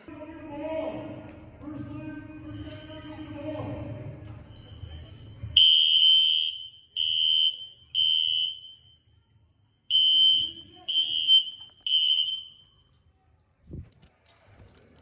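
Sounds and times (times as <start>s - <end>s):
fire alarm beeping: 1.0s - 13.1s.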